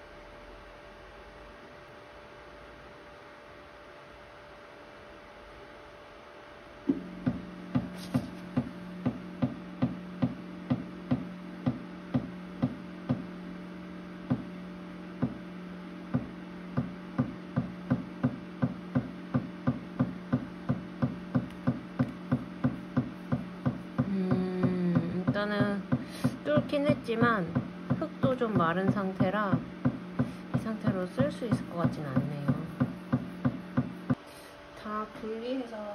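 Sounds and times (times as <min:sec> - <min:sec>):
extruder motor humming: 0:00.0 - 0:35.9.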